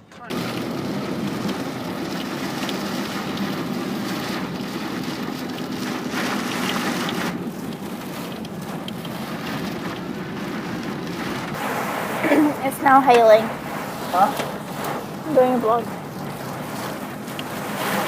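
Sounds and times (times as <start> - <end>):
low road rumble: 0.0 - 18.0
heavy rain on a car: 0.2 - 18.0.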